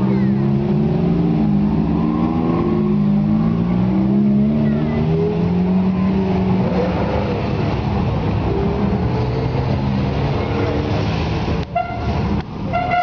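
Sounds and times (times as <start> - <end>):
sports car engines revving: 0.0 - 13.0.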